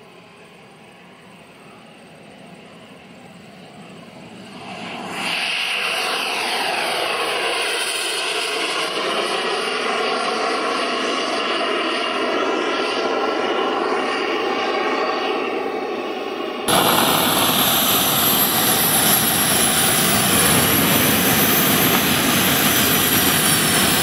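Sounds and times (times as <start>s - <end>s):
jet turbine roar: 0.0s - 24.0s
turbine whine sliding in pitch: 4.2s - 24.0s.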